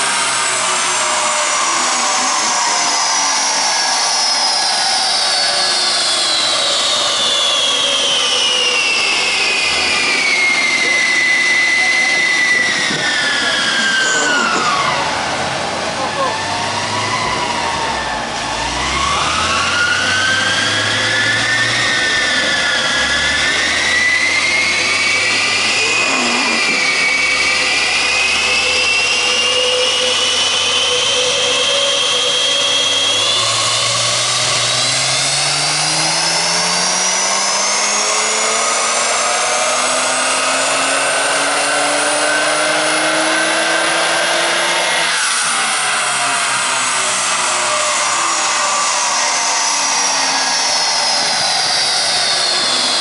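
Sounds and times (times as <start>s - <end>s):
car engine under full load: 0.0s - 53.0s
dyno rollers whining: 0.0s - 53.0s.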